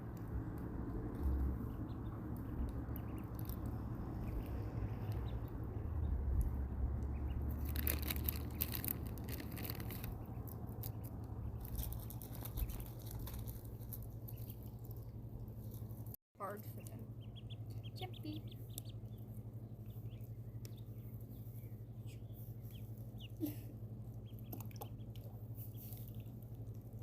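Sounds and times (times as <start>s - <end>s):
ducklings pecking and crunching: 0.0s - 27.0s
steady low hum: 0.0s - 27.0s.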